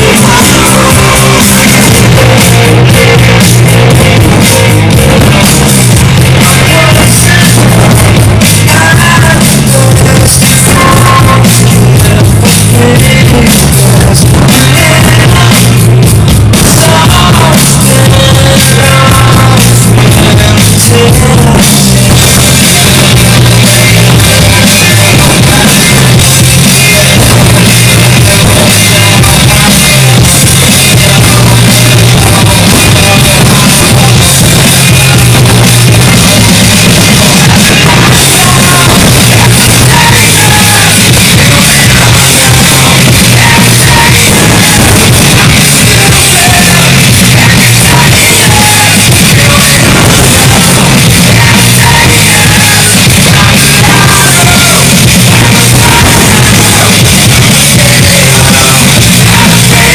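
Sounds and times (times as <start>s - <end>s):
drums: 0.0s - 59.9s
loud music with singing: 0.0s - 59.9s.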